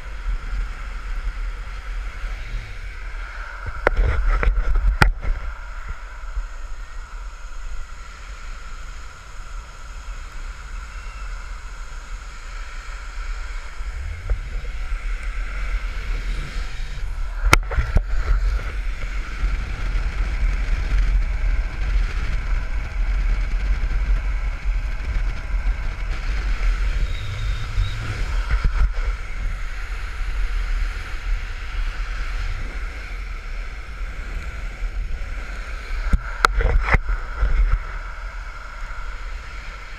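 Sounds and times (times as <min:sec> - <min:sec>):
longboard wheels rolling on asphalt: 0:00.0 - 0:39.9
wind on microphone: 0:00.0 - 0:39.9.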